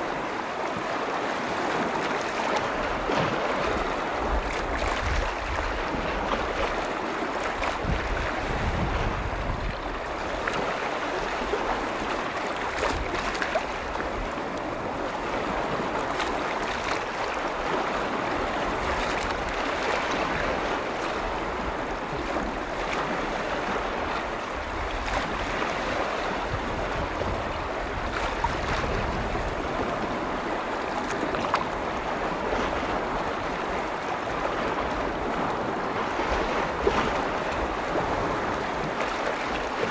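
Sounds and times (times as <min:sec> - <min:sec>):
lake waves lapping on shore: 0:00.0 - 0:39.9
wind rumbling on microphone: 0:00.0 - 0:39.9.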